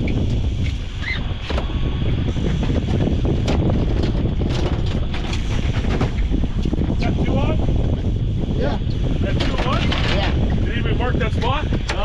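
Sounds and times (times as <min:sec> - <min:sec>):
outboard motors running: 0:00.0 - 0:12.0
wind buffeting microphone: 0:00.0 - 0:12.0.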